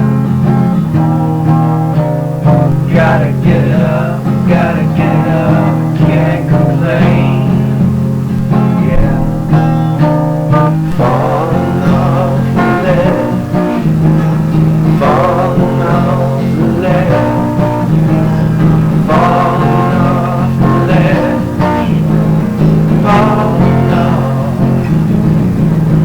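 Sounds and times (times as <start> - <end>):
alternative rock band music: 0.0 - 26.0.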